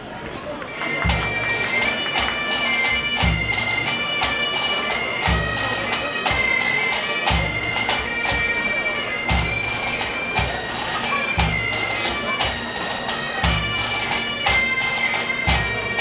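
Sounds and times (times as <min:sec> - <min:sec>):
bagpipes playing melody: 0:00.7 - 0:16.0
drums keeping a beat: 0:00.9 - 0:16.0.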